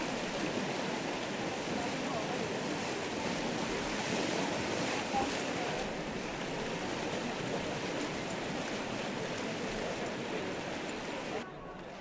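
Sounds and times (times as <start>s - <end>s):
floodwater rushing: 0.0s - 11.9s.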